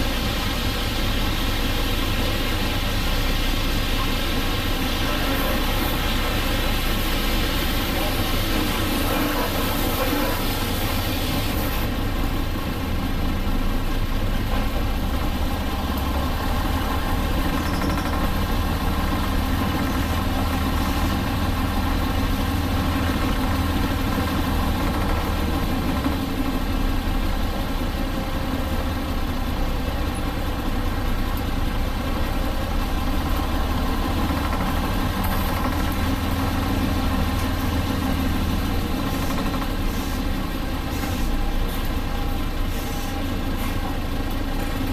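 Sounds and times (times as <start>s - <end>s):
bus diesel engine running: 0.0s - 44.9s.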